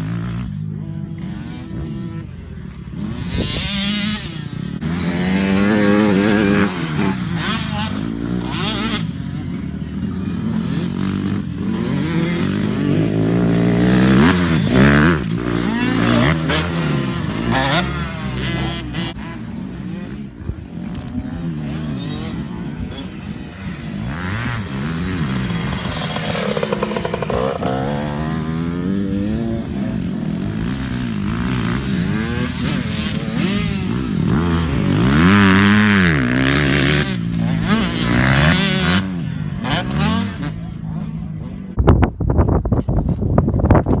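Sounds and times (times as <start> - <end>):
dirt bike engine revving: 0.0 - 41.1.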